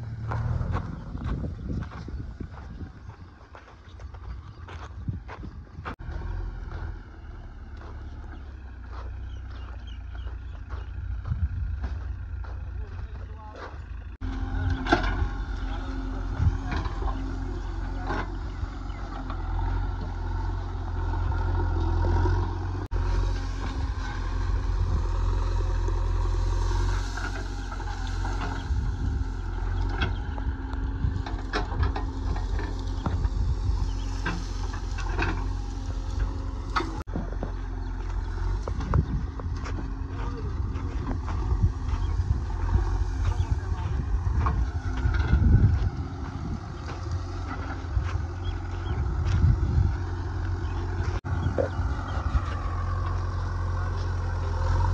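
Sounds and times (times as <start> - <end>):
diesel engine under load: 0.0 - 54.9.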